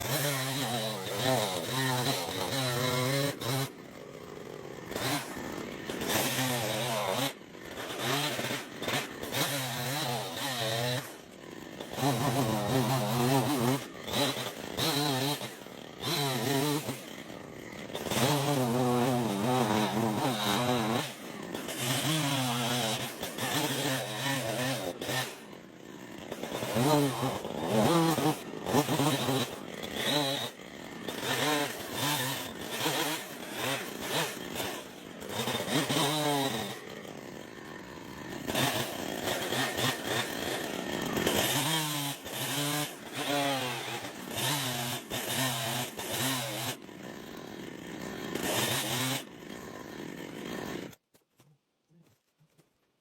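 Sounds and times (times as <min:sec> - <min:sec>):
chainsaw revving: 0:00.0 - 0:51.0.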